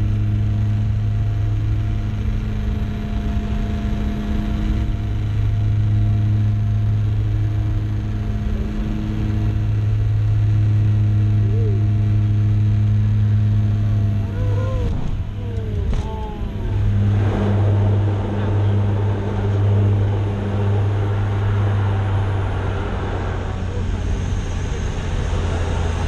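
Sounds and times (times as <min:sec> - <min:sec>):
turboprop engine drone: 0:00.0 - 0:26.0.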